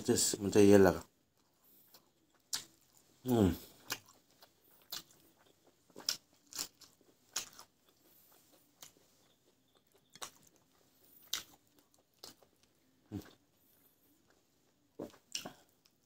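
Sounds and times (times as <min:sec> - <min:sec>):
person chewing food: 0:01.0 - 0:16.0.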